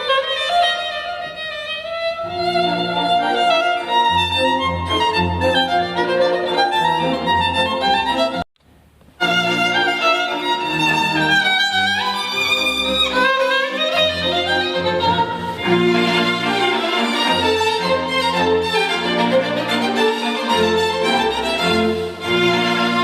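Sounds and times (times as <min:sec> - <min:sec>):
violin music over pulsing bass: 0:00.0 - 0:08.4, 0:09.2 - 0:23.0.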